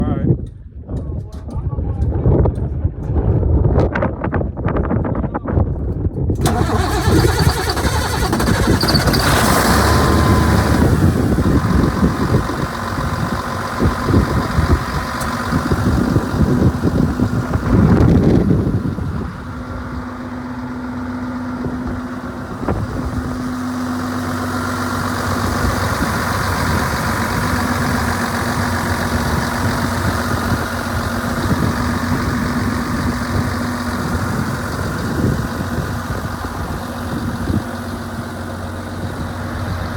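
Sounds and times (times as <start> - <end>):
tractor diesel engine running: 6.3 - 39.9.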